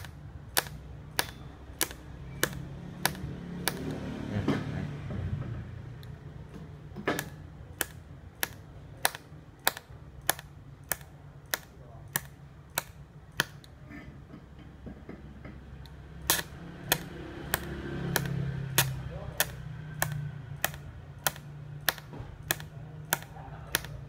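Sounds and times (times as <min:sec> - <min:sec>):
welder pulser clicking: 0:00.0 - 0:04.0, 0:05.9 - 0:13.8, 0:15.8 - 0:24.0.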